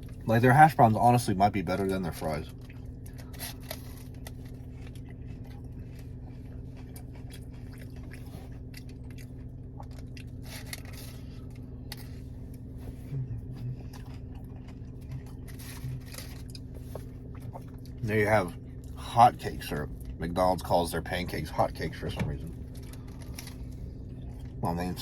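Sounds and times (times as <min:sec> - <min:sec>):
chewing and crunching food: 0:00.0 - 0:25.0
steady low hum: 0:00.0 - 0:25.0.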